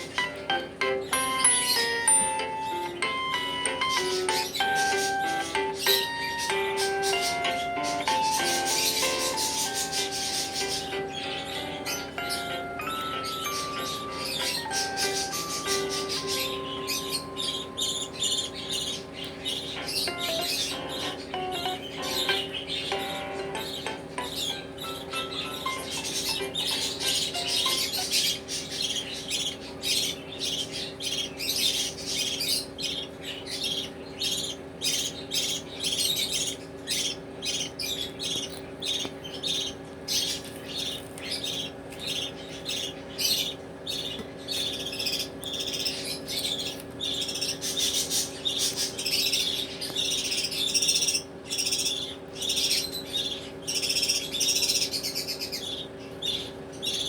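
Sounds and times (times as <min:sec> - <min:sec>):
baby budgerigars chirping: 0:00.0 - 0:57.0.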